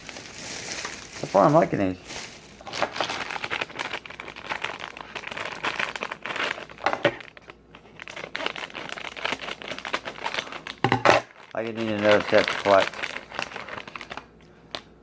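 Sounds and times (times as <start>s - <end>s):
plastic packaging crinkling: 0.0s - 14.9s.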